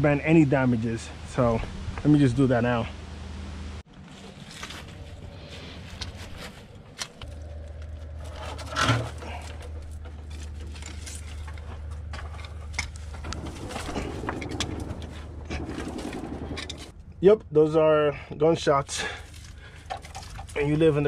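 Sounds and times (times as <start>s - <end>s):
low rumble: 0.0s - 20.9s.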